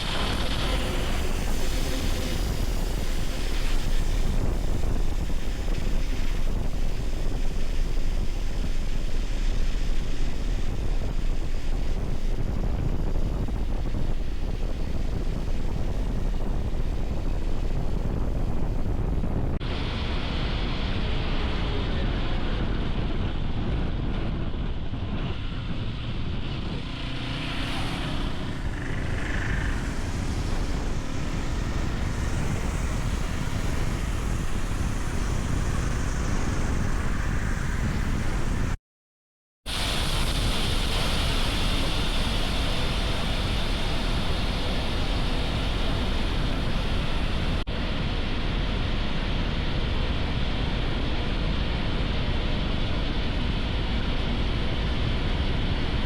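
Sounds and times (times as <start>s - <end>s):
motorcycle engine and road noise: 0.0s - 38.8s, 39.7s - 56.0s
wind rush on microphone: 0.0s - 38.8s, 39.7s - 56.0s.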